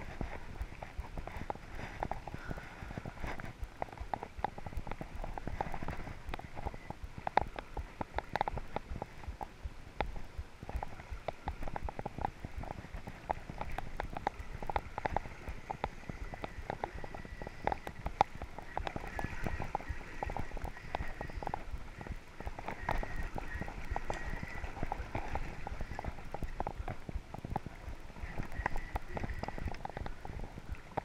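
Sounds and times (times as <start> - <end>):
river current flowing and splashing: 0.0 - 31.0.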